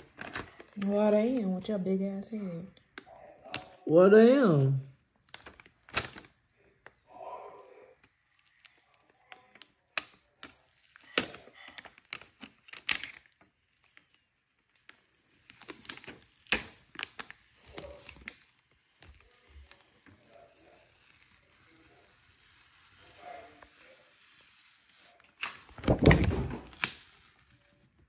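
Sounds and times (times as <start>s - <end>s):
vinyl peeling crackles and snaps: 0.0s - 4.3s, 5.0s - 28.0s.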